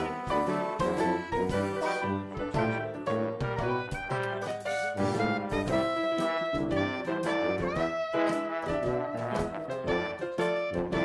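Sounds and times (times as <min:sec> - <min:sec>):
upbeat jazz instrumental with horns: 0:00.0 - 0:11.0.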